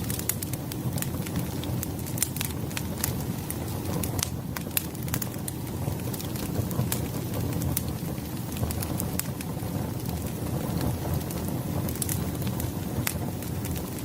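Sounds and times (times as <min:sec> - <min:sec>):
fire crackles and pops: 0:00.0 - 0:14.0
rush of flames: 0:00.0 - 0:14.0.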